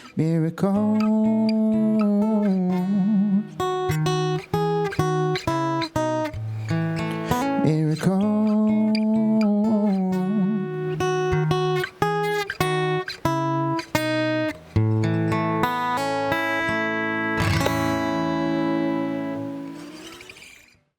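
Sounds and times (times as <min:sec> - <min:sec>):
acoustic guitar playing: 0:00.0 - 0:20.9.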